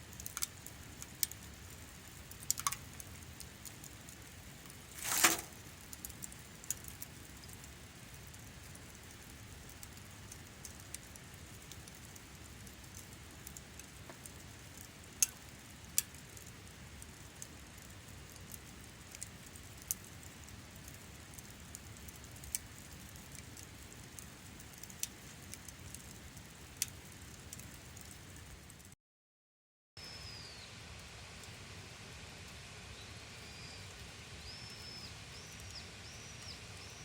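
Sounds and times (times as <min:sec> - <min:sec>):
campfire burning rush: 0:00.0 - 0:28.9, 0:30.9 - 0:37.0
fire crackles and pops: 0:00.0 - 0:29.0, 0:30.2 - 0:37.0.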